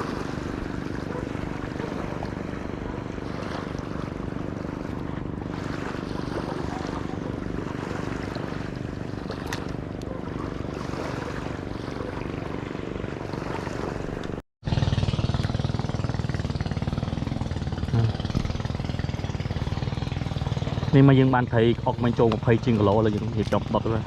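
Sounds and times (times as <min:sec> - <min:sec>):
engine drone: 0:00.0 - 0:24.0.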